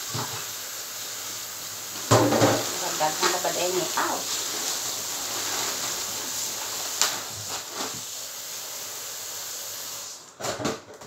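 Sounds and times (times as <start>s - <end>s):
tap water running into sink: 0.0s - 10.5s.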